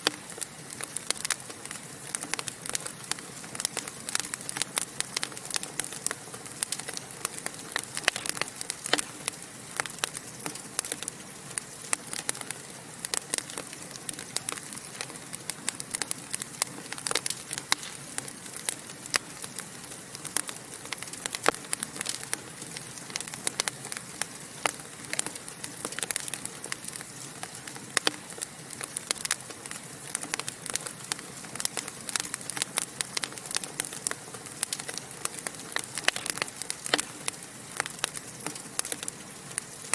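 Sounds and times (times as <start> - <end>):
fireplace logs crackling: 0.0 - 39.9
steady hiss: 0.0 - 39.9.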